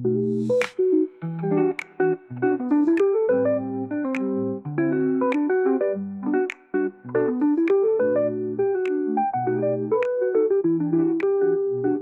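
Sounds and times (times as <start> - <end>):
plucked guitar-like chords: 0.0 - 12.0.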